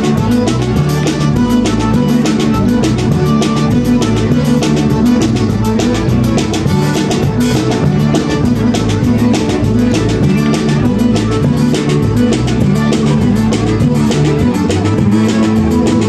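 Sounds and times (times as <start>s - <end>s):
live band playing dance tune: 0.0s - 16.0s
quick steady drum beat: 0.0s - 16.0s.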